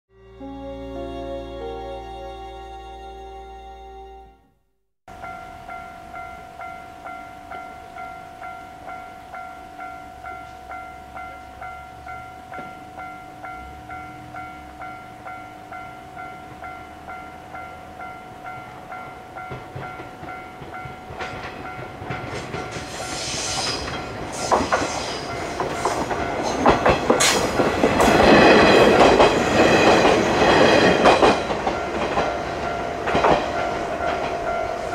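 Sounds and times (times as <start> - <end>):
railroad crossing bell clanging: 5.1 - 34.9.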